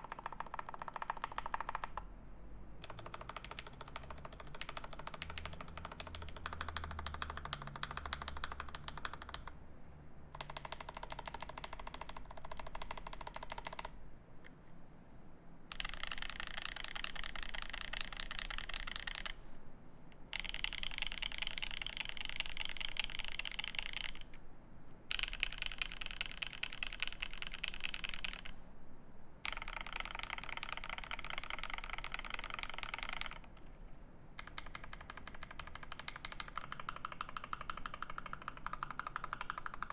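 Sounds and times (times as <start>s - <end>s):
mechanical keyboard typing: 0.0s - 2.1s, 2.8s - 9.6s, 10.3s - 14.0s, 15.7s - 19.4s, 20.3s - 24.4s, 25.1s - 28.6s, 29.4s - 33.7s, 34.4s - 39.9s.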